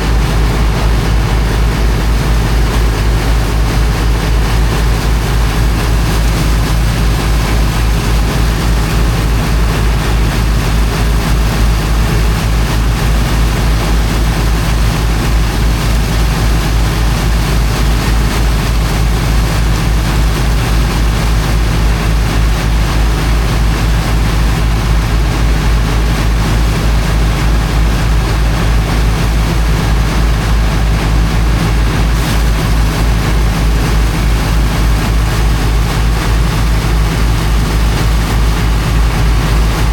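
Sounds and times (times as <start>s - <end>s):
diesel engine running: 0.0s - 39.9s
water jet rushing: 0.0s - 39.9s.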